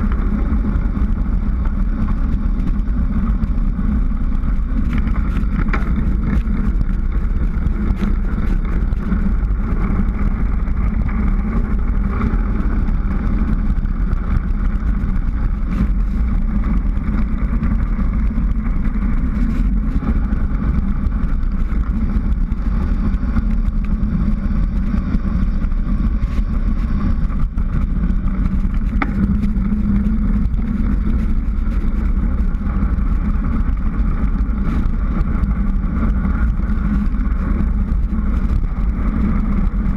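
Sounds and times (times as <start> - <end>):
tyres rumbling on asphalt: 0.0 - 39.9
wind rush on microphone: 0.0 - 39.9.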